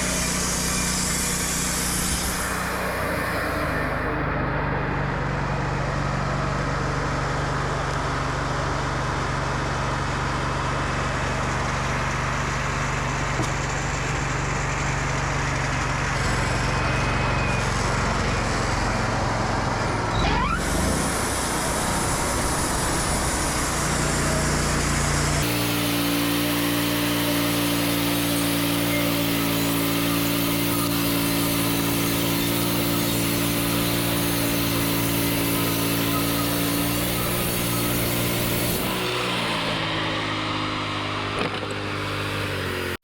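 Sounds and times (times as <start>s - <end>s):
bandsaw mill engine humming: 0.0s - 43.0s.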